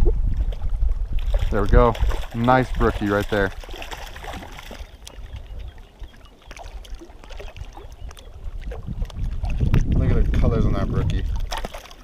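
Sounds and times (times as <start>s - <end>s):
wind on microphone: 0.0s - 11.8s
small water splashes: 0.2s - 12.0s.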